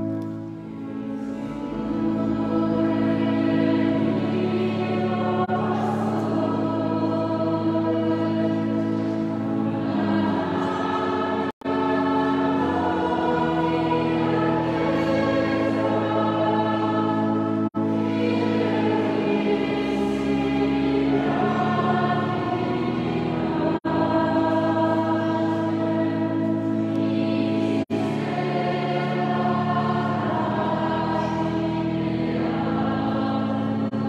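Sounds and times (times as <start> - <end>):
choir singing a hymn: 0.0 - 34.0.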